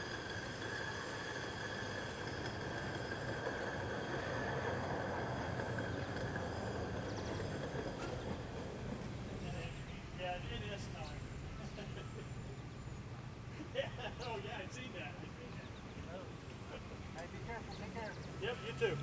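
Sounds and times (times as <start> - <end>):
rail weed sprayer rumbling: 0.0 - 19.0.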